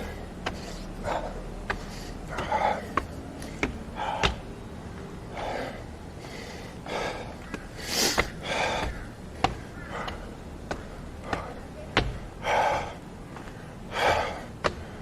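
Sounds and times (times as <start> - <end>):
man breathing hard: 0.0 - 4.5, 5.2 - 11.6, 12.2 - 15.0.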